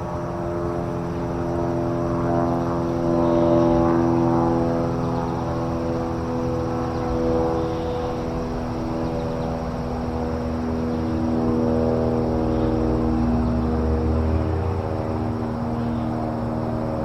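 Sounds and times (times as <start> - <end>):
airplane engine humming: 0.0 - 17.0.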